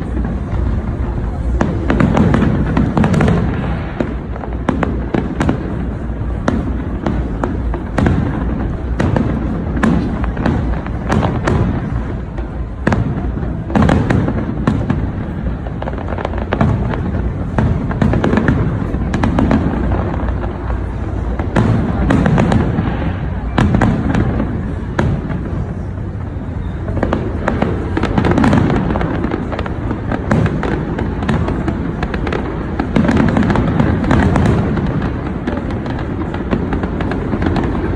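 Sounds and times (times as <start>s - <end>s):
constant low din: 0.0s - 37.9s
sharp bangs and crackles: 0.0s - 37.9s.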